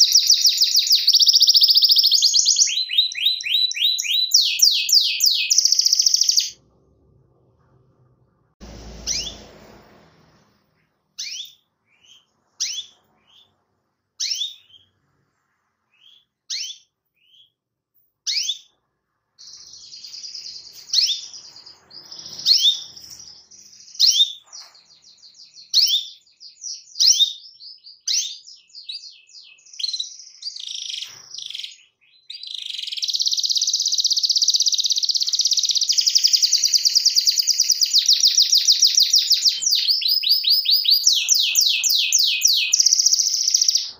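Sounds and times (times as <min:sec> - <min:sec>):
canary trilling song: 0:00.0 - 0:06.6, 0:08.6 - 0:10.4, 0:11.0 - 0:43.9
canary chirping: 0:00.0 - 0:43.9.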